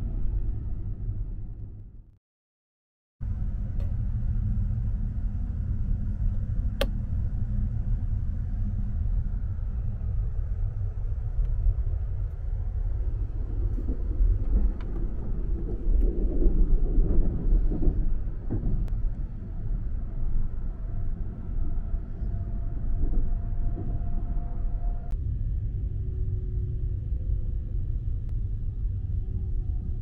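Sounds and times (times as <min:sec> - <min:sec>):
train carriage low rumble: 0:00.0 - 0:02.2, 0:03.2 - 0:30.0.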